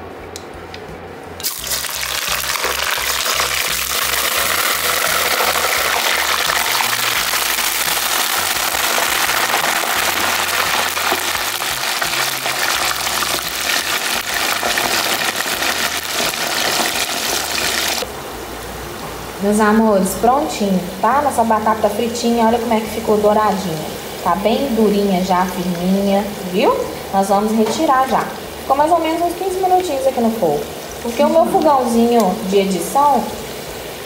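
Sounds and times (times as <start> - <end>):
deep frying sizzle: 1.4 - 18.1, 19.3 - 34.0.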